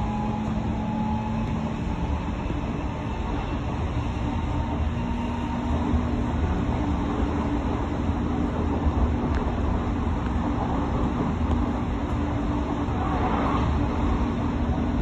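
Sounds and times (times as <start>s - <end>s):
steady low hum: 0.0s - 15.0s
train wheels rumbling on rail: 0.0s - 15.0s.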